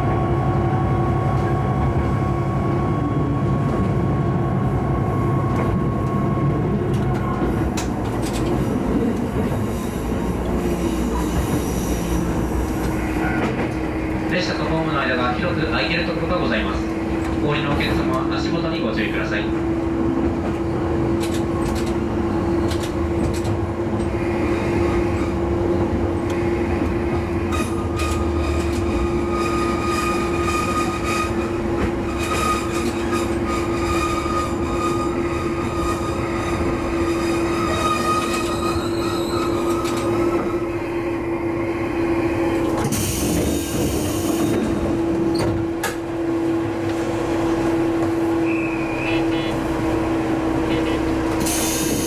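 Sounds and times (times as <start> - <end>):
railcar engine humming: 0.0 - 52.0.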